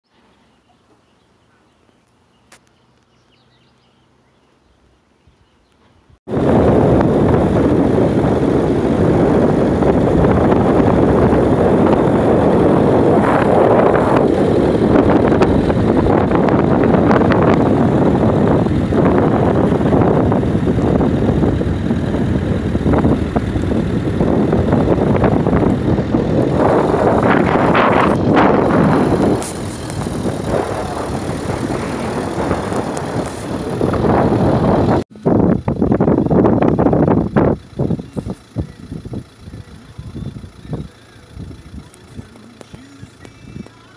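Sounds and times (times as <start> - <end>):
wind buffeting microphone: 5.3 - 43.7.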